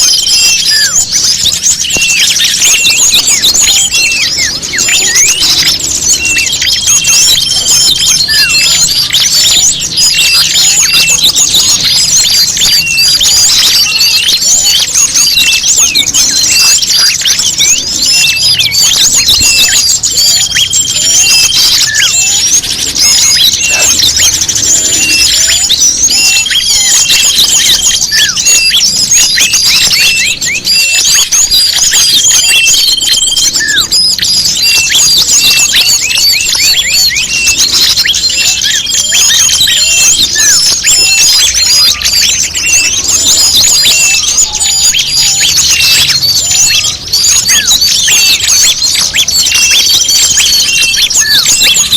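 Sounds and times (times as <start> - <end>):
songbirds chirping and twittering: 0.0 - 51.9.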